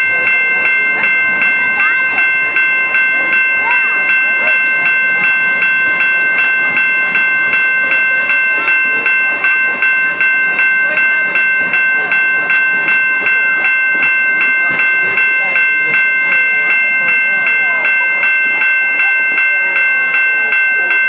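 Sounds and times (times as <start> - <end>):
level-crossing warning bells ringing: 0.0 - 21.0.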